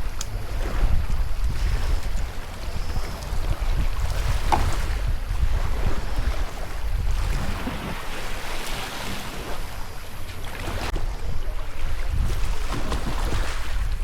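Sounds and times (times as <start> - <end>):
sea water splashing: 0.0 - 14.0
wind buffeting microphone: 0.0 - 14.0.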